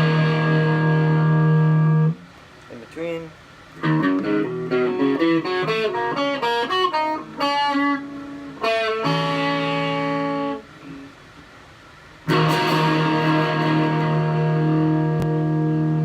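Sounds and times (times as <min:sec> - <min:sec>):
clean electric guitar: 0:00.0 - 0:02.3, 0:03.7 - 0:11.5, 0:12.2 - 0:16.0.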